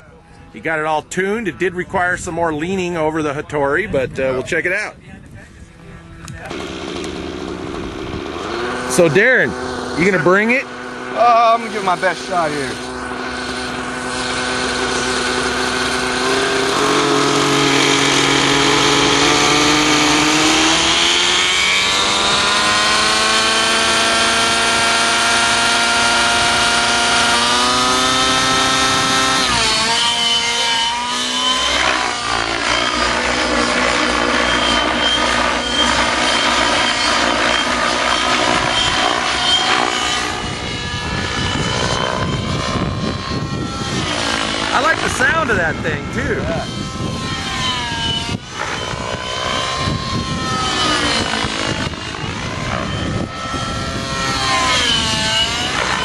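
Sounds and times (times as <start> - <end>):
model helicopter engine: 0.0 - 56.0.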